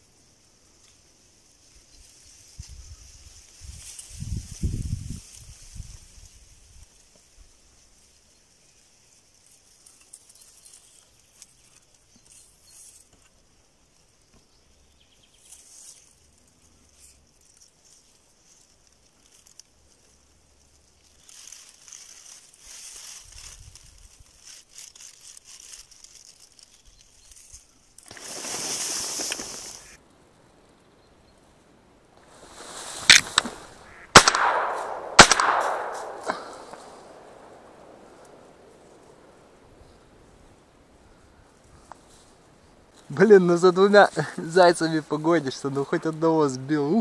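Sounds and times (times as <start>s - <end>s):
faint rustling and crackling: 0.0s - 47.0s.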